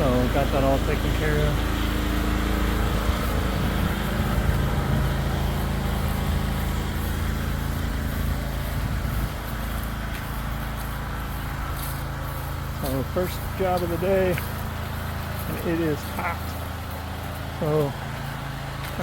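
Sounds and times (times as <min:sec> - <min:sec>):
pressure washer engine running: 0:00.0 - 0:19.0.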